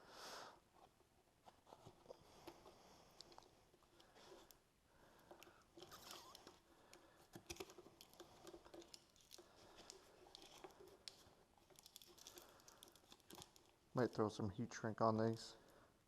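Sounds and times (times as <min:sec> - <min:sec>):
hands handling wire and plastic: 0:00.7 - 0:14.2.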